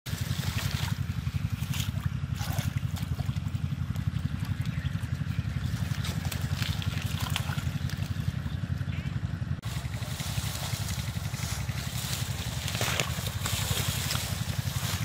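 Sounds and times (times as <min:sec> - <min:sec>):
hands splashing in muddy water: 0:00.1 - 0:08.3, 0:09.8 - 0:15.0
small engine running: 0:00.1 - 0:15.0.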